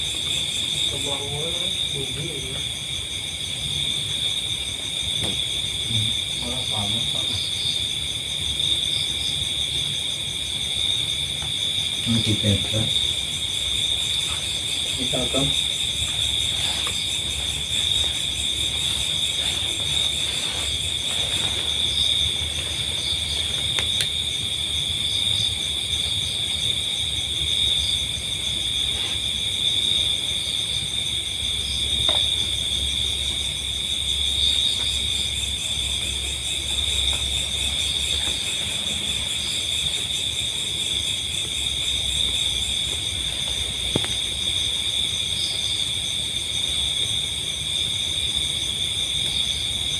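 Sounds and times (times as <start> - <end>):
insect chorus trilling: 0.0 - 49.9.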